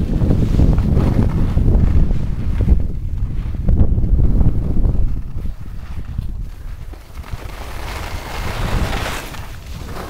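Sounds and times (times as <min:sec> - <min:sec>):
ski edges scraping on snow: 0:00.0 - 0:10.0
wind buffeting microphone: 0:00.0 - 0:10.0.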